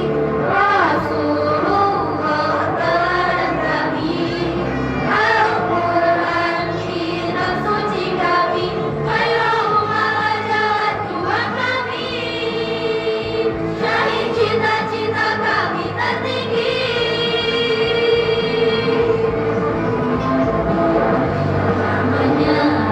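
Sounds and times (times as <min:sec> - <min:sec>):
choir singing: 0:00.0 - 0:22.9.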